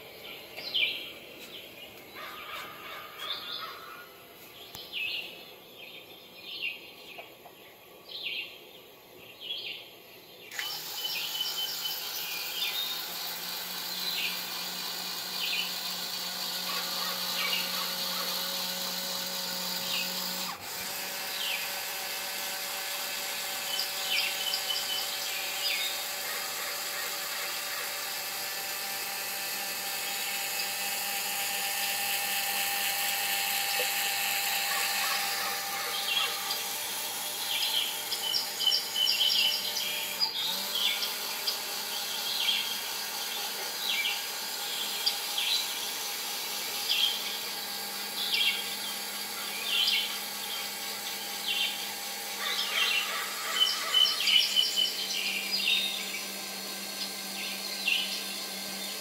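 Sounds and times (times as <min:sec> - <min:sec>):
small electric motor whirring: 0:00.0 - 0:06.9, 0:10.5 - 0:59.0.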